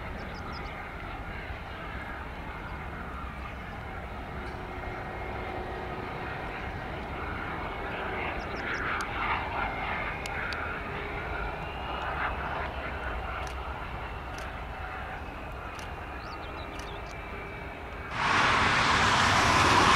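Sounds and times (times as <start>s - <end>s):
jet engines whining and rumbling: 0.0s - 19.9s.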